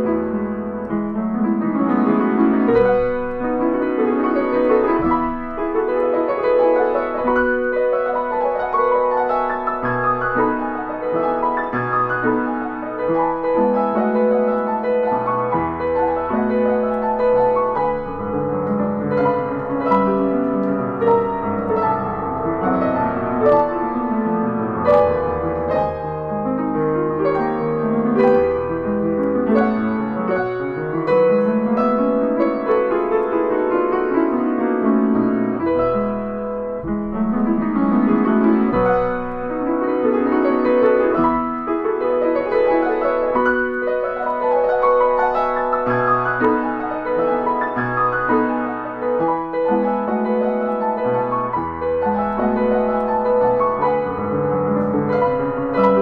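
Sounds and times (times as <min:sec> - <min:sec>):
classical piano passage: 0:00.0 - 0:56.0.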